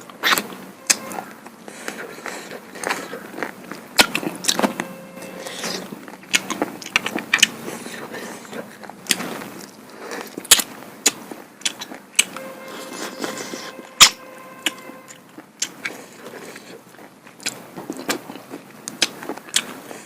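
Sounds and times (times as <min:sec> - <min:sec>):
person chewing and smacking lips: 0:00.0 - 0:20.0.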